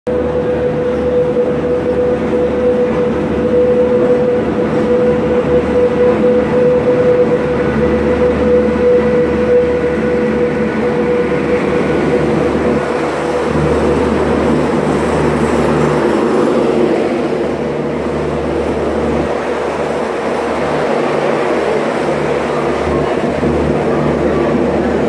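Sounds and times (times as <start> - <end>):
electric train passing with whine: 0.1 - 25.0.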